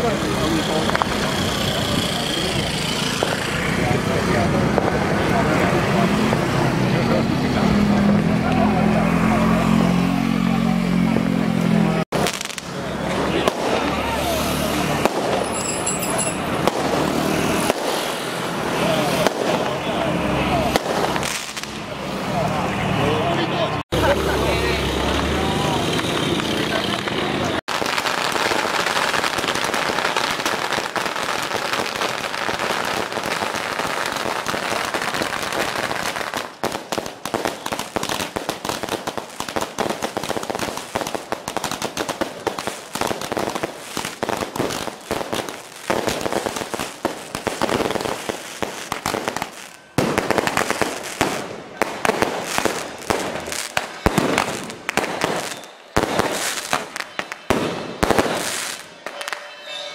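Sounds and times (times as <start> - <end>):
firecrackers crackling and banging: 0.0 - 9.8, 10.5 - 59.9.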